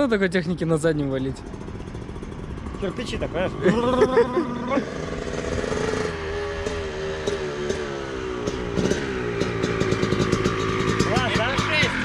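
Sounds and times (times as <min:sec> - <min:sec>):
motocross bike engine revving: 0:01.4 - 0:12.0.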